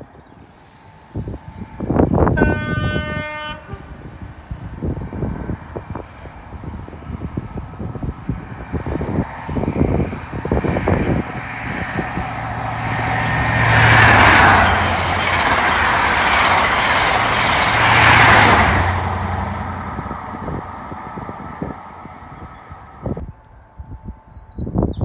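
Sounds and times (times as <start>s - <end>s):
wind buffeting microphone: 0.0s - 25.0s
train wheels rushing on rail: 0.5s - 23.2s.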